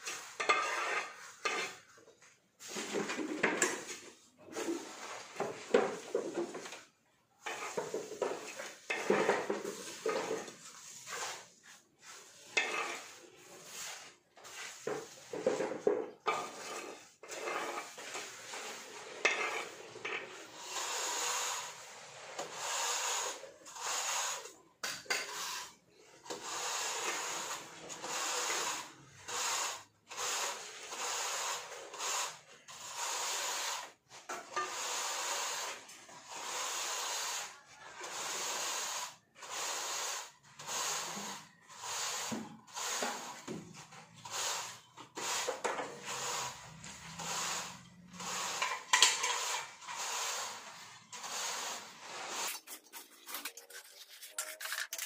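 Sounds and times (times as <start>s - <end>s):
straightedge scraping wet mortar: 0.0s - 2.0s, 7.4s - 55.0s.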